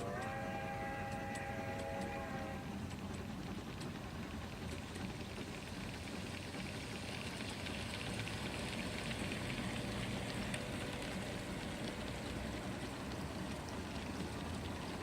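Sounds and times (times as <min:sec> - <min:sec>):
model locomotive running on track: 0:00.0 - 0:15.0.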